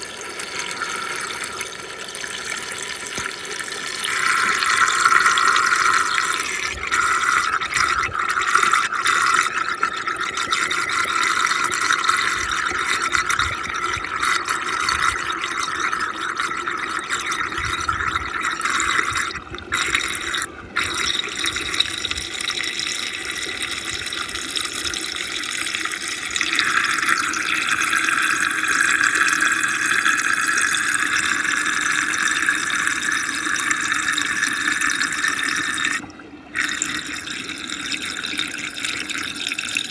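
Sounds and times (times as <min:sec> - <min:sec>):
water swirling in whirlpool: 0:00.0 - 0:39.9.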